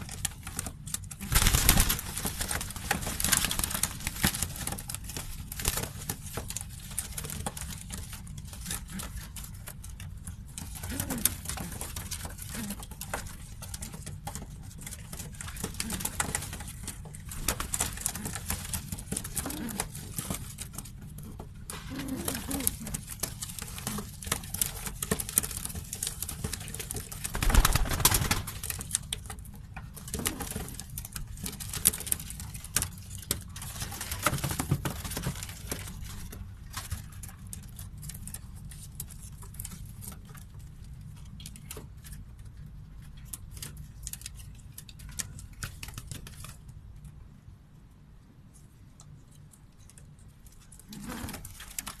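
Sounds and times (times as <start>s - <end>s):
small scratching and clicking: 0.0s - 52.0s.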